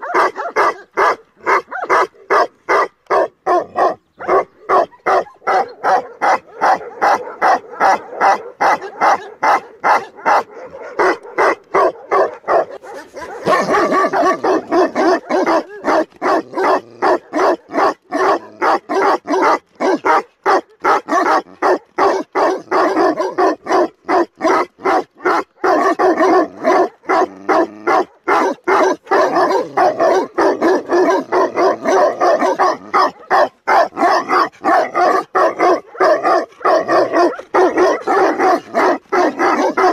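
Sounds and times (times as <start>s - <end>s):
dogs barking: 0.0s - 39.9s.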